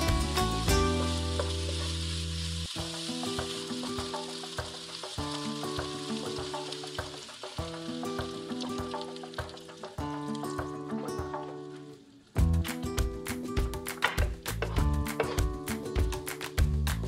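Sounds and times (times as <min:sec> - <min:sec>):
soft background music: 0:00.0 - 0:17.0
vegetables sizzling in a skillet: 0:00.0 - 0:17.0.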